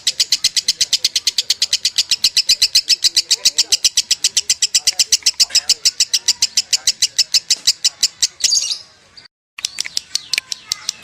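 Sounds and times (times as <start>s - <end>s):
lovebird chirping trill: 0.0s - 11.0s.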